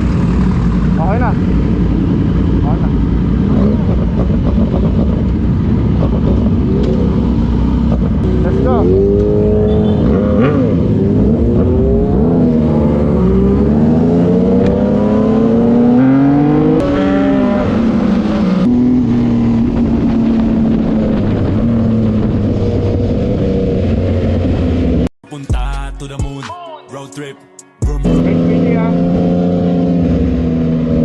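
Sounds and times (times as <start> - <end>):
motorcycle engine revving: 0.0 - 25.1, 28.0 - 31.0.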